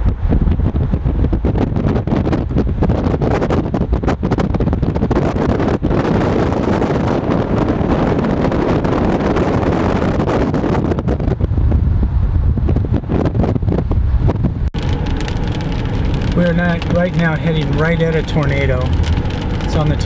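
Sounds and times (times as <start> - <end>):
moving vehicle rumble: 0.0 - 20.0
wind buffeting microphone: 0.0 - 20.0.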